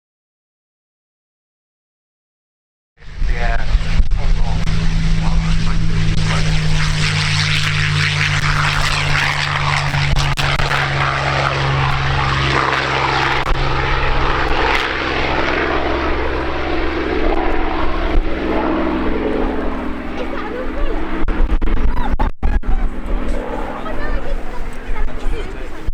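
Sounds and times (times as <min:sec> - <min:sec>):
propeller plane engine droning: 0:03.0 - 0:25.9
propeller rushing noise: 0:03.0 - 0:25.9.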